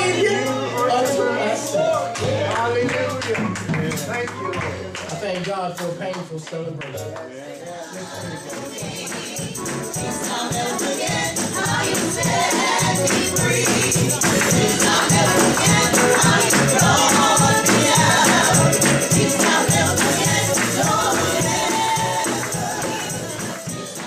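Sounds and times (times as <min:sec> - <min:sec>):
choir singing gospel: 0:00.0 - 0:05.4, 0:07.3 - 0:24.0
band playing: 0:00.0 - 0:07.3, 0:07.9 - 0:24.0
rhythmic percussion: 0:00.0 - 0:24.0.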